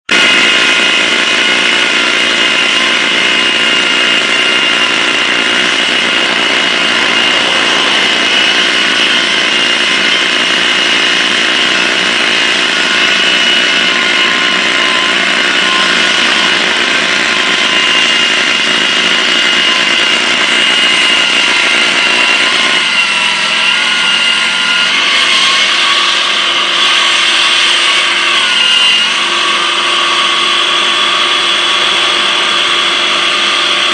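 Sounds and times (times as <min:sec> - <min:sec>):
concrete saw grinding: 0:00.0 - 0:33.9.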